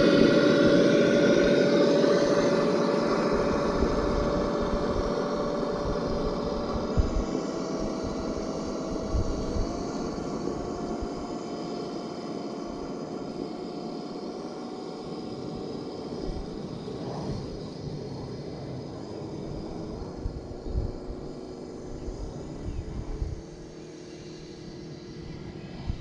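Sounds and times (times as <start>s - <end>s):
wind buffeting microphone: 0.0s - 11.8s, 14.5s - 23.8s, 24.4s - 26.0s
simulated engine whine: 0.0s - 26.0s.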